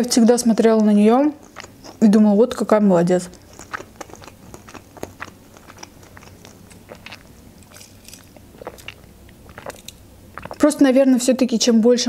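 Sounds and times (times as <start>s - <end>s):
person chewing: 0.8s - 10.8s.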